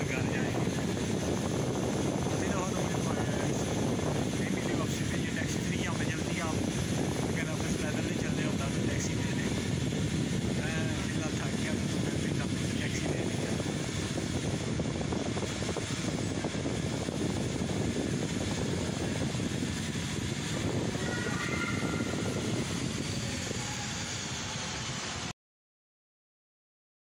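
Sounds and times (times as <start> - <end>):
low indoor concourse rumble: 0.0 - 25.3.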